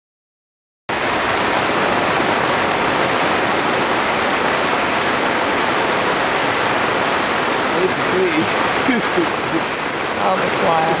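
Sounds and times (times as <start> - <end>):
heavy rain pouring: 0.9 - 11.0.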